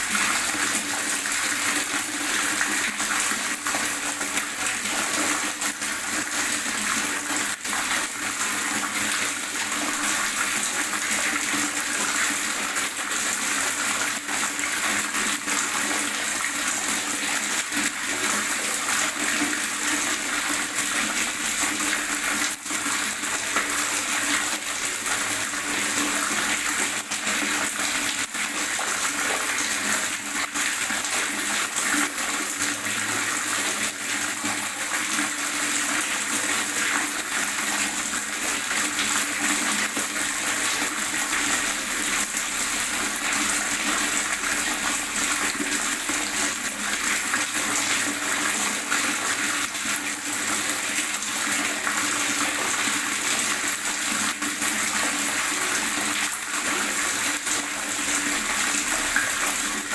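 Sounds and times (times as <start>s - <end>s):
water gurgling: 0.0s - 59.9s.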